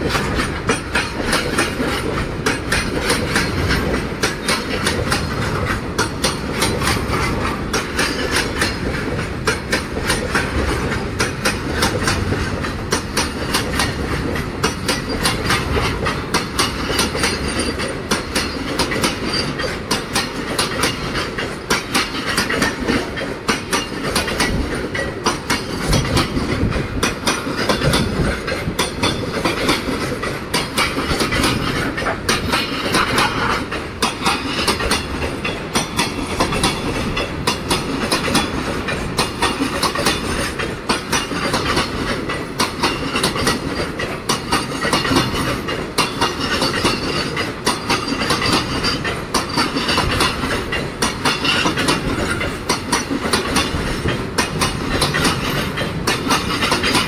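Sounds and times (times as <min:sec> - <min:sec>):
train wheels clattering on rails: 0:00.0 - 0:57.0
wagons rumbling and rattling: 0:00.0 - 0:57.0.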